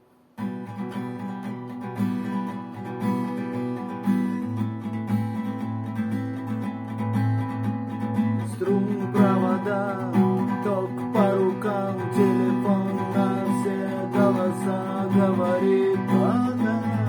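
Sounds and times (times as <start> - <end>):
acoustic guitar strumming: 0.4 - 17.0
higher guitar melody: 0.4 - 17.0.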